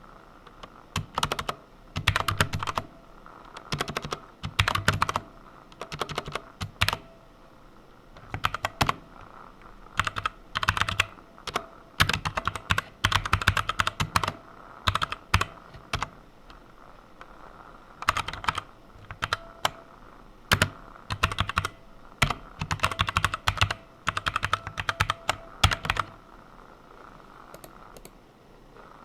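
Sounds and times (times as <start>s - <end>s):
keyboard typing: 0.4s - 7.2s, 8.2s - 16.6s, 18.0s - 19.9s, 20.5s - 26.2s, 27.5s - 28.2s.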